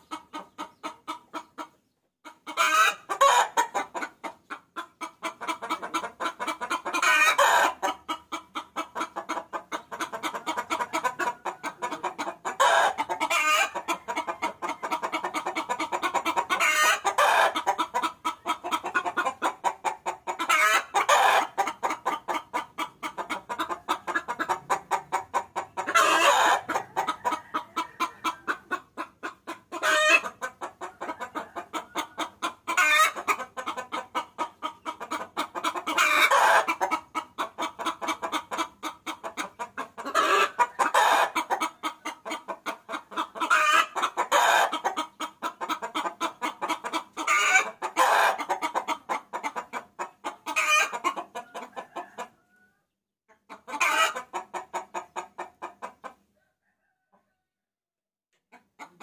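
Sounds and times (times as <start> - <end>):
hen cackling: 0.0 - 52.6, 53.5 - 56.2.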